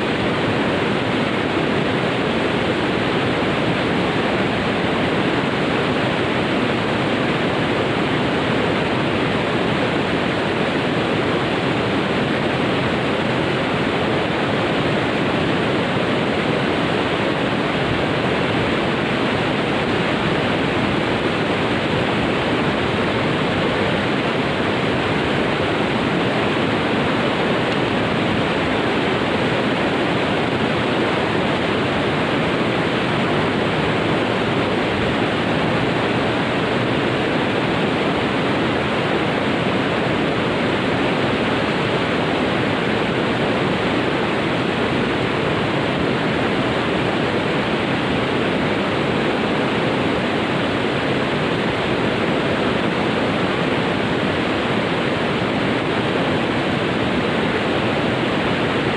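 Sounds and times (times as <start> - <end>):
fast-flowing water rushing: 0.0 - 58.9.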